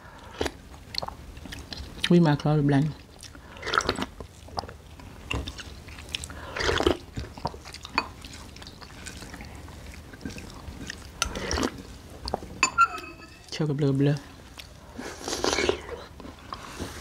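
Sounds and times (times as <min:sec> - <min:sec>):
chewing and wet mouth sounds: 0:00.1 - 0:12.6, 0:13.4 - 0:17.0.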